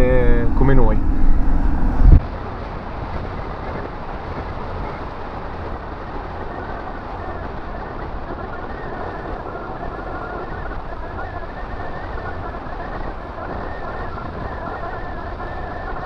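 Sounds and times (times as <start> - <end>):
loud low vehicle rumble: 0.0 - 16.0.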